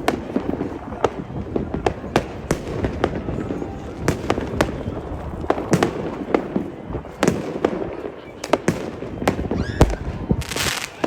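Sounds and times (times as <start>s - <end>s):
firework bangs: 0.0s - 11.0s
low rumble of fireworks: 0.0s - 11.0s.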